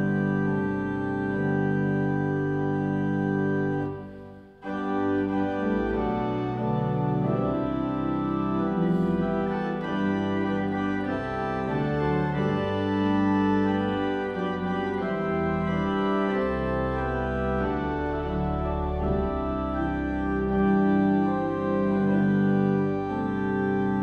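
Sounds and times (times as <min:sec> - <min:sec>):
pipe organ playing chords: 0:00.0 - 0:24.0.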